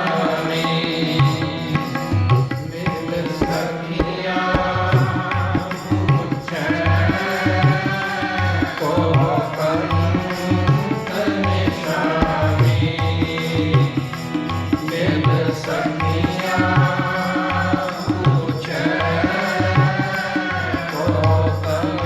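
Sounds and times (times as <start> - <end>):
man singing a hymn: 0.0 - 2.0, 2.6 - 22.0
harmonium: 0.0 - 22.0.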